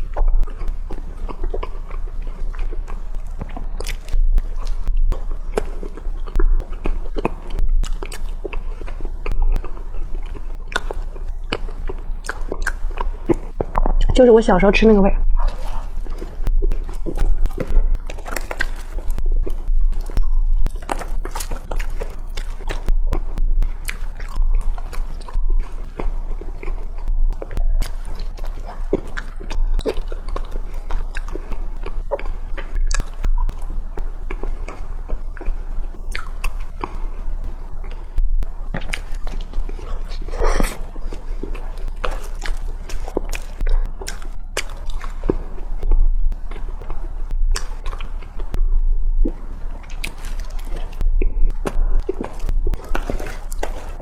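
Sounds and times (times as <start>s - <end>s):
chewing with wet mouth clicks: 0.0s - 54.0s
steady low hum: 0.0s - 54.0s.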